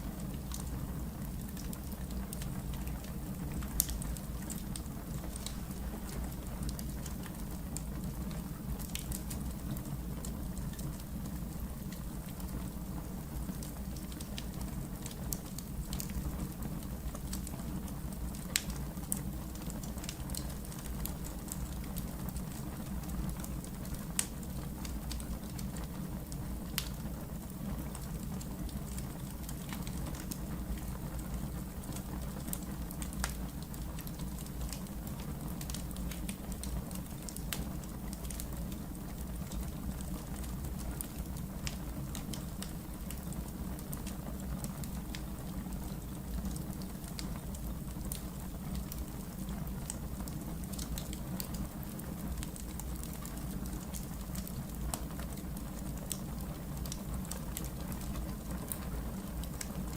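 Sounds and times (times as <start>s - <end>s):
fire crackles and pops: 0.0s - 59.9s
low rumble of flames: 0.0s - 59.9s.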